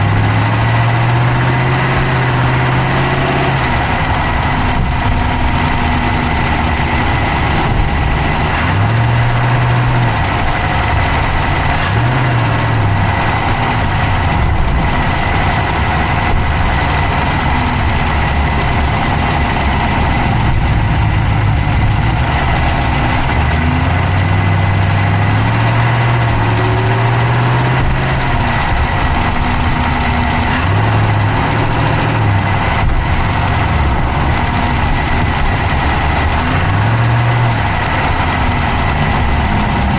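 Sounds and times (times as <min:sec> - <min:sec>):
car engine idling: 0:00.0 - 0:39.9
fast engine clicking: 0:00.0 - 0:39.9.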